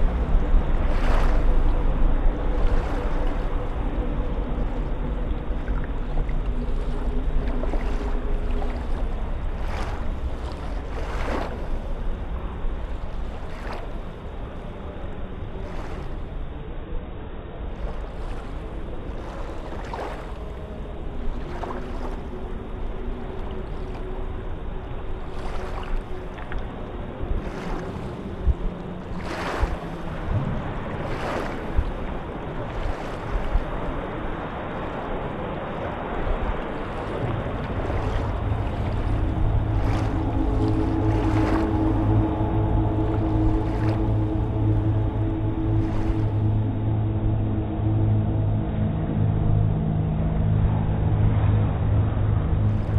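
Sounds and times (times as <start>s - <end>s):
surf washing over sand: 0.0s - 14.6s, 17.8s - 46.8s
wind rumble on microphone: 0.0s - 52.9s.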